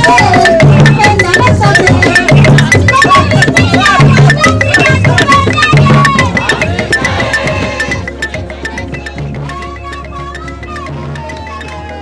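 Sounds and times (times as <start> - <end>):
music with drums and percussion: 0.0 - 12.0.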